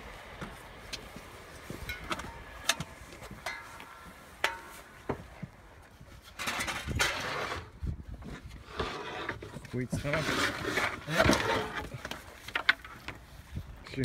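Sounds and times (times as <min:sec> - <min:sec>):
rustle: 0:00.0 - 0:14.0.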